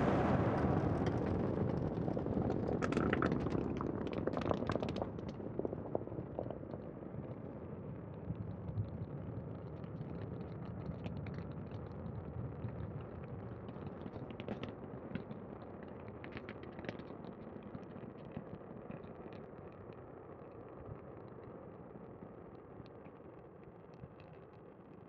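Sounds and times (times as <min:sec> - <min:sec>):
rocket engines rumbling with crackles: 0:00.0 - 0:25.0.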